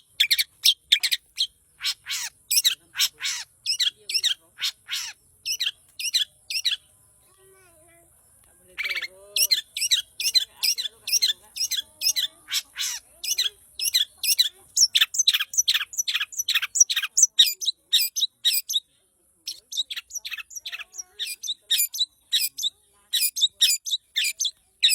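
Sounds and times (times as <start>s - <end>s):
bird chattering song: 0.0s - 7.4s, 8.6s - 24.9s.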